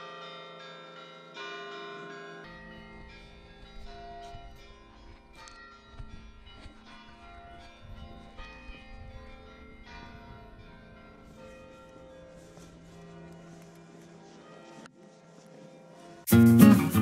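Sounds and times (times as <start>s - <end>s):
church bells ringing: 0.0s - 14.7s.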